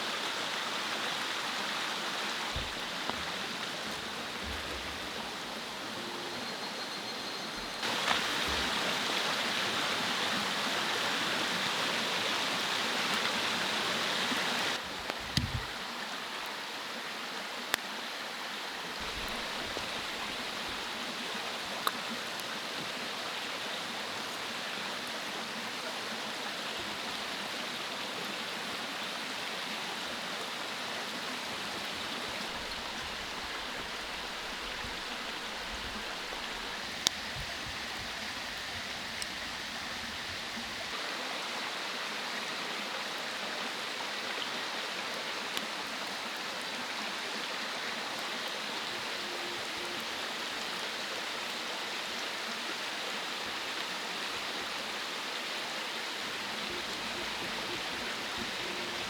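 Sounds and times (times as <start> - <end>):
stream rushing: 0.0 - 6.9, 7.5 - 59.0.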